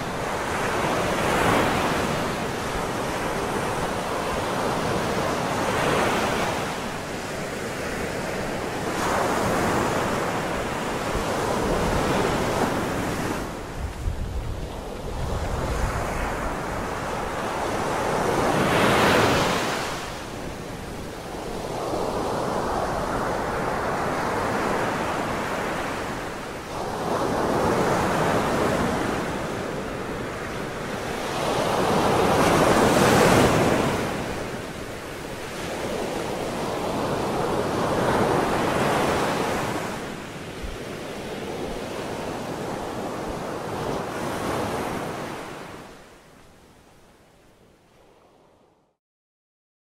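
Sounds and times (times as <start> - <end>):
ocean surf breaking on beach: 0.0 - 46.3.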